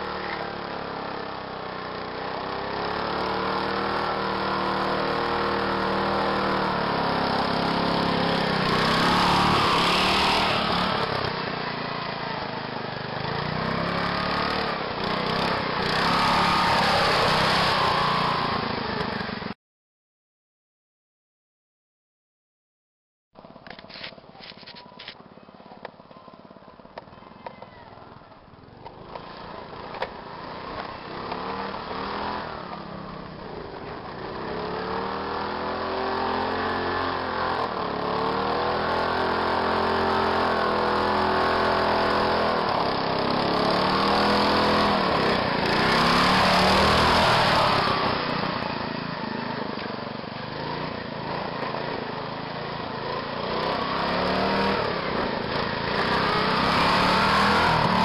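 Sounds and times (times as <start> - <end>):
lawn mower engine revving: 0.0 - 19.5, 28.7 - 58.0.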